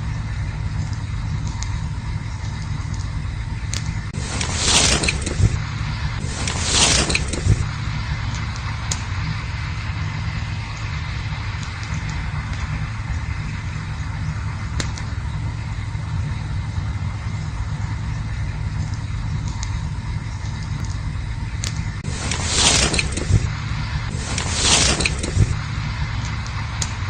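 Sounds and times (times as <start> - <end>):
campfire rumbling and crackling: 0.0 - 27.0
fire popping: 0.0 - 27.0.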